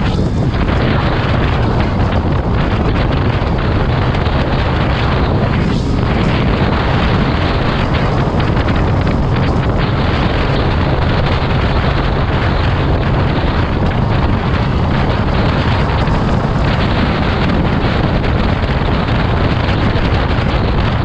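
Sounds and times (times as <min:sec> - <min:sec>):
vehicle rumble at speed: 0:00.0 - 0:21.0
wind buffeting microphone: 0:00.0 - 0:21.0.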